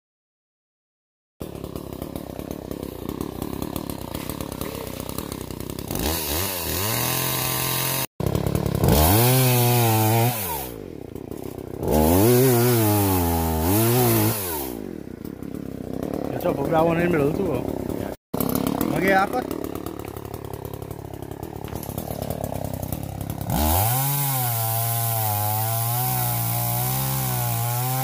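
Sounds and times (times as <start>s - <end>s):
chainsaw idling and revving: 1.4s - 28.0s.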